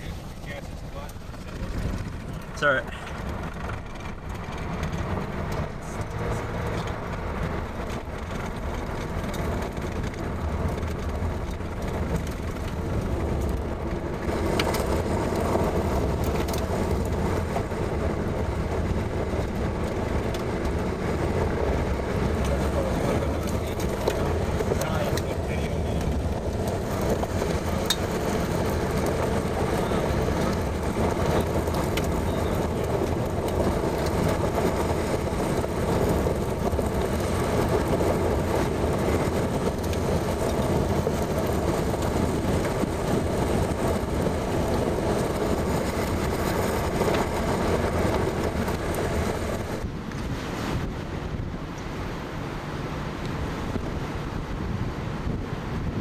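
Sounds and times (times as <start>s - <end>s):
road and engine noise in vehicle: 0.0s - 56.0s.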